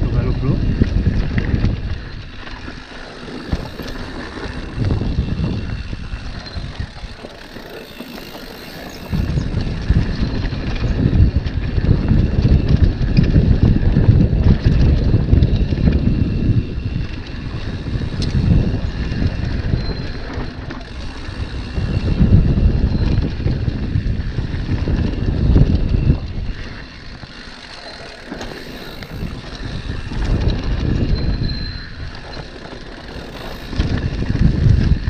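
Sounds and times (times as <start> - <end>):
bike rattling and ticking: 0.0 - 35.0
tyres rumbling on loose dirt: 0.0 - 35.0
wind buffeting microphone: 0.0 - 35.0.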